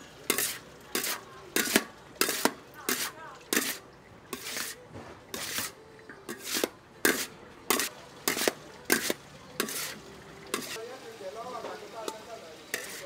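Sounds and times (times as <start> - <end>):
spatulas scraping steel bowl: 0.0 - 10.8, 12.0 - 13.0.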